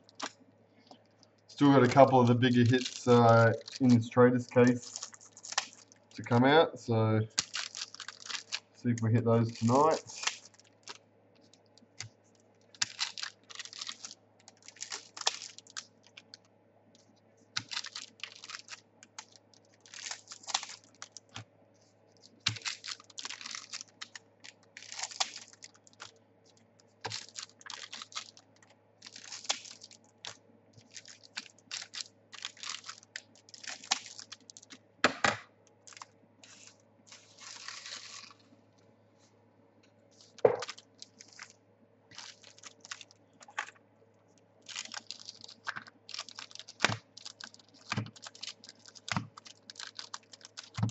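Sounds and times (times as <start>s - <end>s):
faint low hum: 0.0s - 50.9s
wrappers tearing and crinkling: 0.1s - 0.3s, 1.5s - 6.4s, 7.3s - 12.1s, 12.7s - 16.5s, 17.6s - 21.4s, 22.1s - 34.8s, 35.8s - 38.4s, 40.2s - 43.7s, 44.6s - 50.9s.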